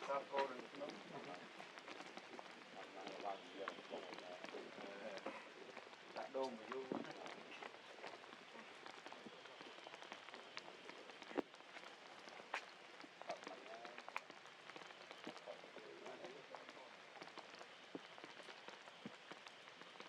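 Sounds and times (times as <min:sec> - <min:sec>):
faint rain falling: 0:00.0 - 0:20.0
raindrops clicking on surfaces: 0:00.0 - 0:20.0.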